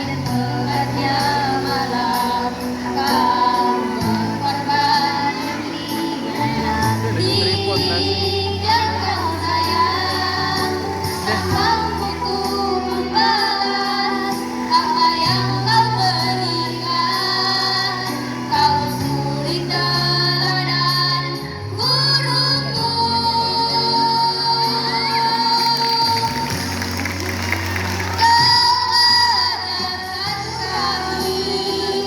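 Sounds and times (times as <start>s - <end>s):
female choir singing: 0.0s - 27.1s, 27.8s - 32.0s.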